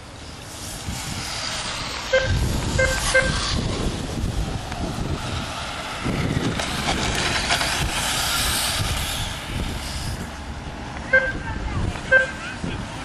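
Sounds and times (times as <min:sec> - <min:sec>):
electric toy motorbikes whirring past: 0:00.0 - 0:10.8
low rumble: 0:00.0 - 0:11.0.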